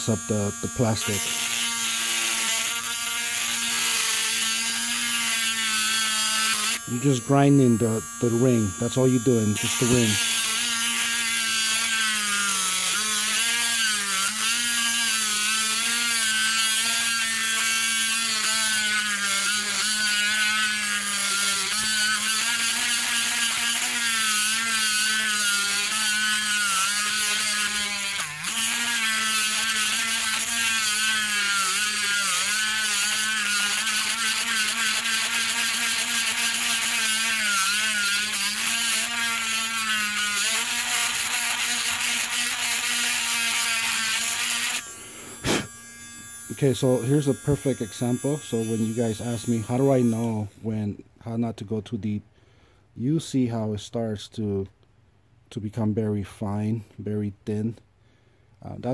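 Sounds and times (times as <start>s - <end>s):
electric grinder grinding metal: 0.0s - 50.6s.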